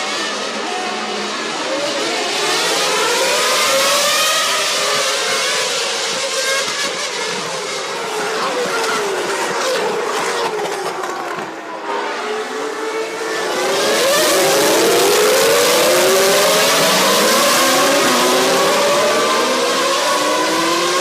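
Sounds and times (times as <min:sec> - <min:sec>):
racing car engines accelerating: 0:00.0 - 0:21.0.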